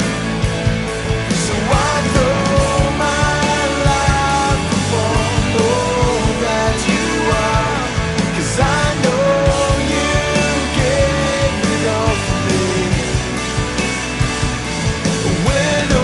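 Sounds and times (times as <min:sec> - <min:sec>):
rock-style background music: 0:00.0 - 0:16.0.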